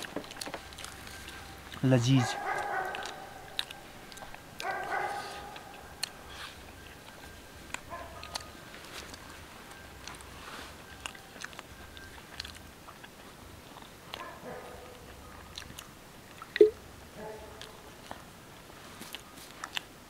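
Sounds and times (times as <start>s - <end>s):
people chewing and biting food: 0.0s - 20.0s.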